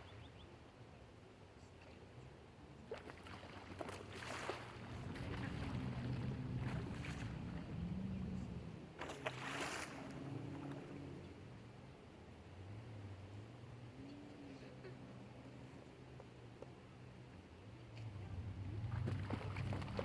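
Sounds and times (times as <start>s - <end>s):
low engine hum: 1.7s - 20.0s.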